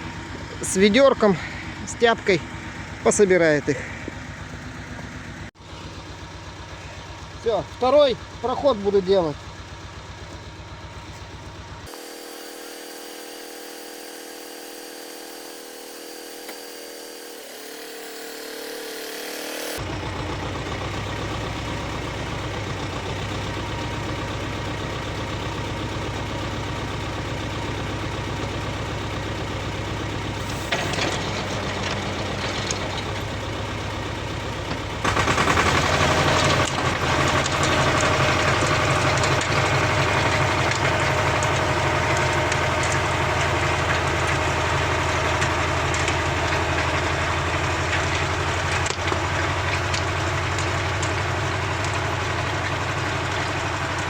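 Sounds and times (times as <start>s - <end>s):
tiller small engine running: 0.0s - 54.0s.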